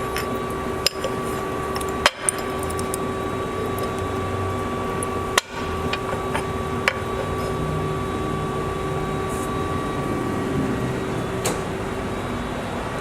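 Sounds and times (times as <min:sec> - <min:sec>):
band saw humming: 0:00.0 - 0:13.0.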